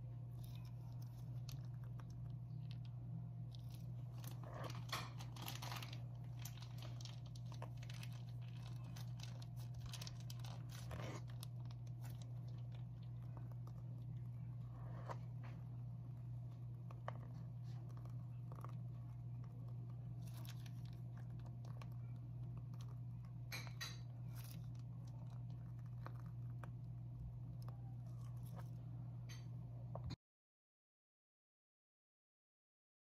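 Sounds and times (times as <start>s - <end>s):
piping bag crackling and squishing: 0.0s - 29.4s
steady low hum: 0.0s - 30.2s.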